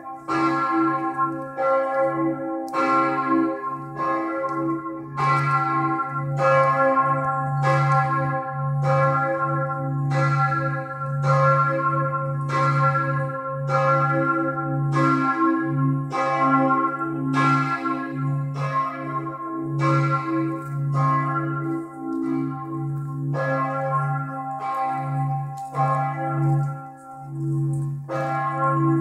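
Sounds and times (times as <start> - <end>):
cathedral bells pealing: 0.0 - 29.0.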